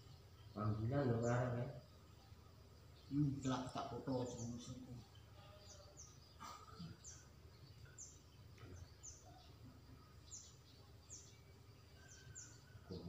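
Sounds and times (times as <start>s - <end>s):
bird chirping faintly: 0.0s - 13.0s.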